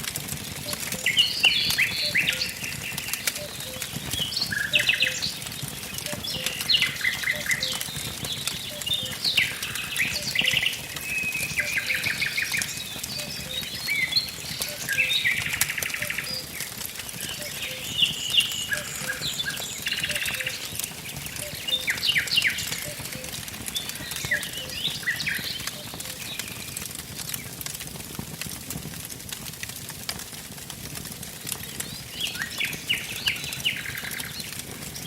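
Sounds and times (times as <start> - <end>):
wood fire crackling: 0.0 - 35.0
songbirds singing: 0.4 - 27.5, 31.6 - 35.0.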